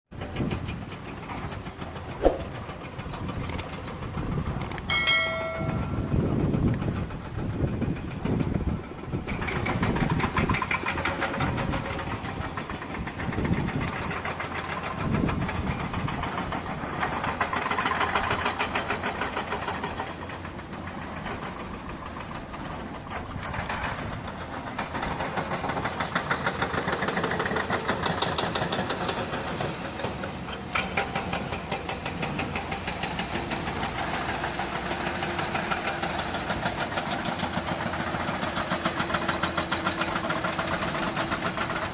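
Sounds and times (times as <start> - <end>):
diesel truck engine knocking: 0.1 - 41.9.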